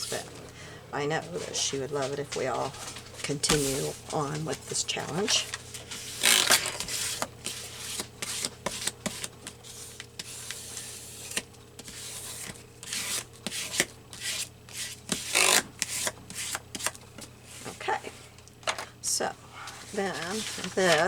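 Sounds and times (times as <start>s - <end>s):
paper rustling under hands: 0.0s - 21.0s.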